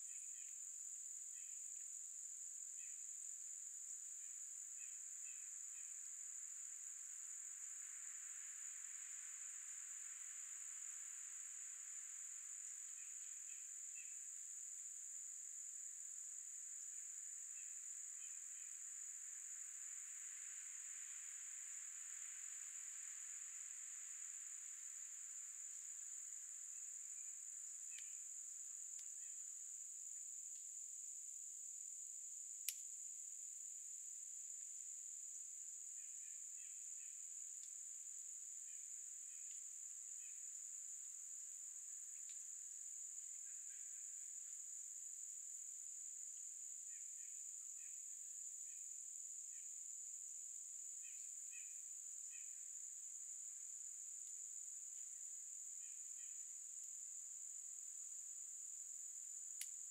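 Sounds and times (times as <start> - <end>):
insects trilling: 0.0 - 2.0, 2.6 - 59.9.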